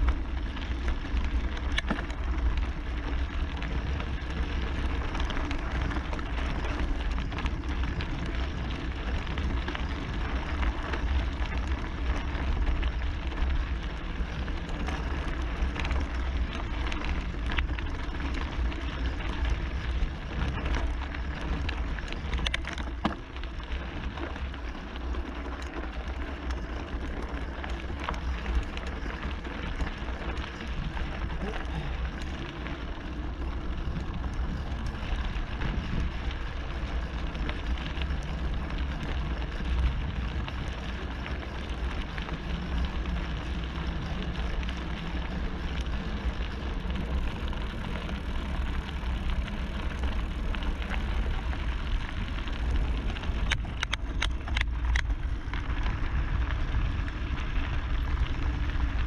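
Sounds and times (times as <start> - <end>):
bike tyres crunching on gravel: 0.0 - 59.0
wind rumble on microphone: 0.0 - 59.0.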